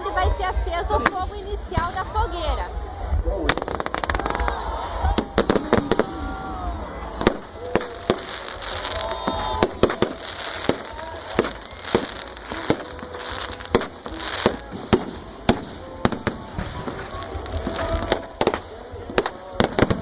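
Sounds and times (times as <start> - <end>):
fireworks banging: 0.0 - 20.0
fireworks crackling: 0.0 - 20.0
people's voices: 0.0 - 20.0.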